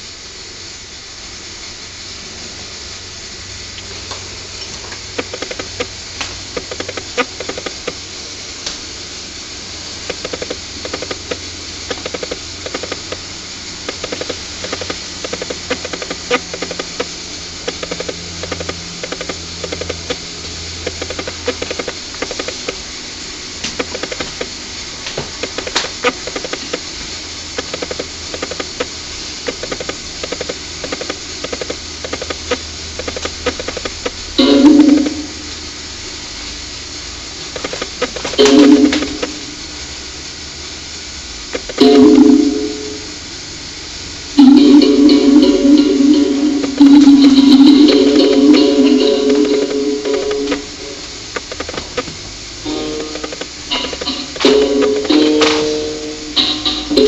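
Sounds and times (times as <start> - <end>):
videotape hiss: 0.0 - 57.0.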